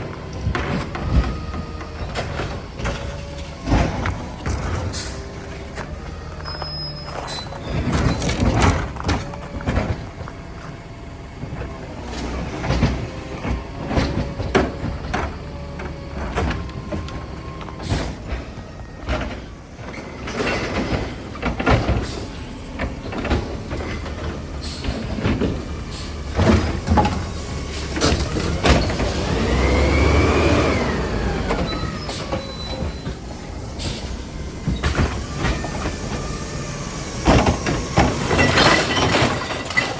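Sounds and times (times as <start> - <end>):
garbage truck engine running: 0.0 - 39.9
knocks and clanks: 0.2 - 29.9, 30.8 - 39.9.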